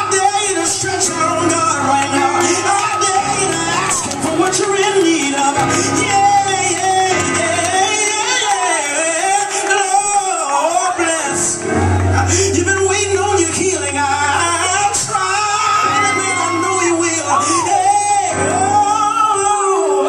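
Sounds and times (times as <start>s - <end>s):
person singing gospel: 0.0s - 20.0s.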